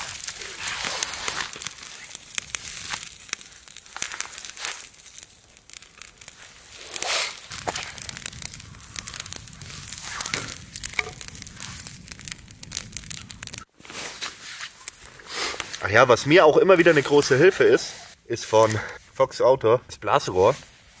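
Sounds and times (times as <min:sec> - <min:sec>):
twigs crackling in kindling fire: 0:00.0 - 0:21.0.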